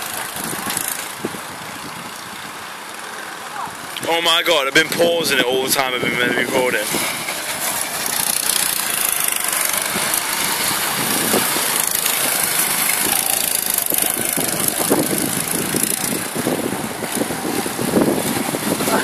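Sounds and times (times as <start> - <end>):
go-kart engines passing: 0.0 - 19.0.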